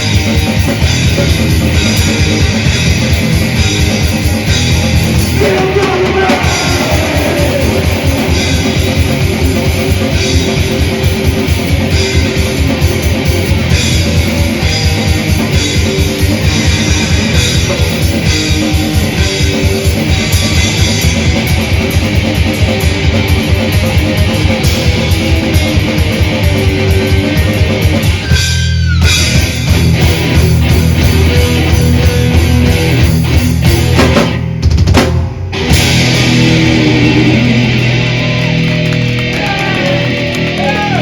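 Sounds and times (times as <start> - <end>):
guitar squeal: 0.0 - 34.0
metal band playing: 0.0 - 41.0.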